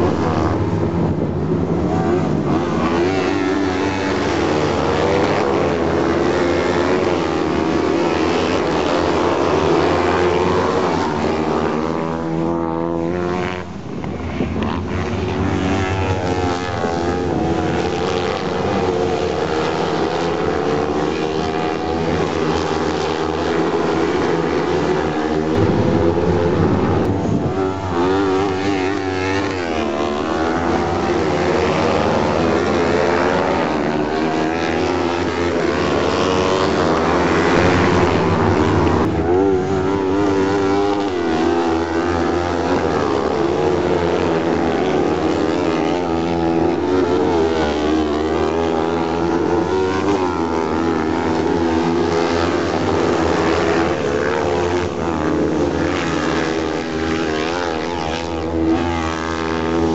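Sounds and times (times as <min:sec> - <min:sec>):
racing buggy engines revving: 0:00.0 - 0:59.9.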